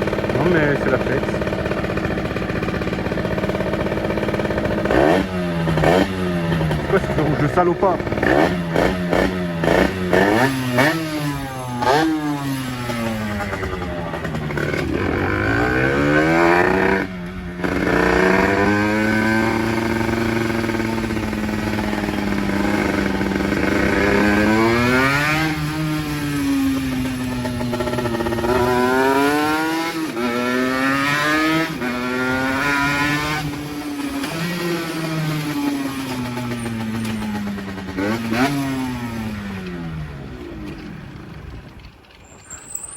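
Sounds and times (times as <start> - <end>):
motorbike engine accelerating: 0.0 - 42.9.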